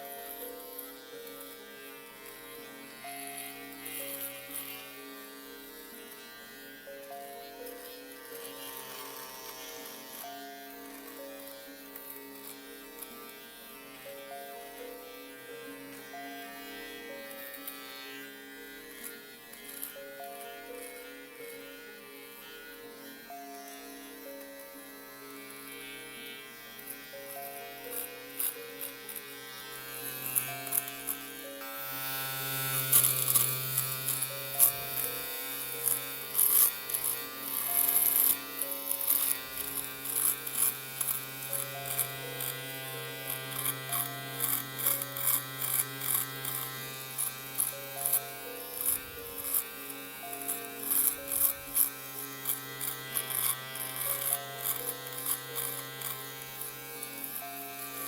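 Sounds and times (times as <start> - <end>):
electric shaver buzzing: 0.0 - 58.0
shaver cutting through hair: 0.0 - 58.0.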